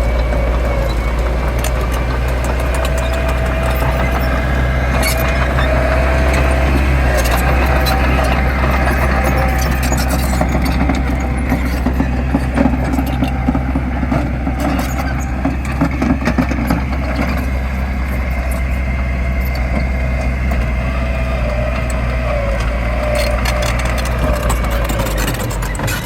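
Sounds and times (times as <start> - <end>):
clanks and knocks: 0.0 - 18.8, 22.5 - 26.0
diesel engine deep drone: 0.0 - 26.0.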